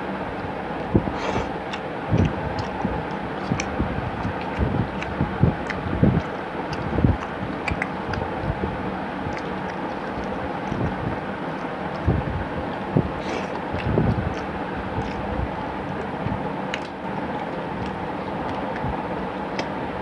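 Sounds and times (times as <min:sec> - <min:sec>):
chewing and mouth clicks: 0:00.4 - 0:19.8.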